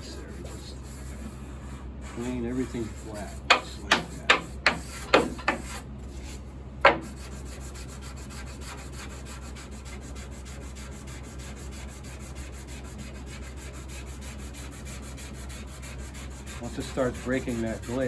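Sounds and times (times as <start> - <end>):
sandpaper rubbing on hard finish: 0.0 - 18.0.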